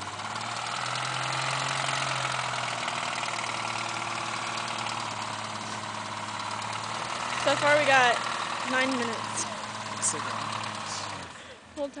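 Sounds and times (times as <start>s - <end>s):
engine running under load: 0.0s - 12.0s.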